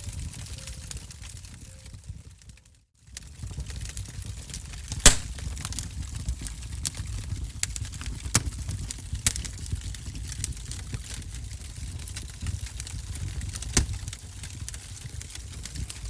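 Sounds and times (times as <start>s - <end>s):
low rumble of flames: 0.1s - 16.0s
wood fire crackling: 2.5s - 16.0s.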